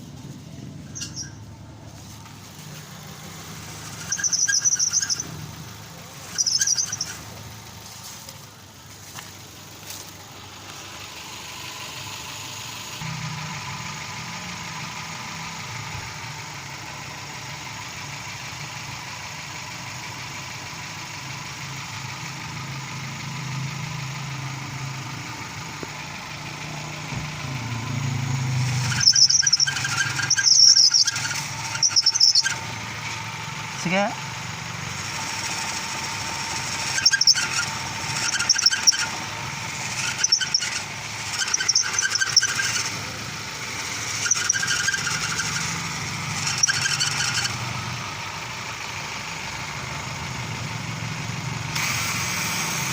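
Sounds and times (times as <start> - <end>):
car engine running: 0.0 - 52.9
drive belt squealing: 0.0 - 52.9.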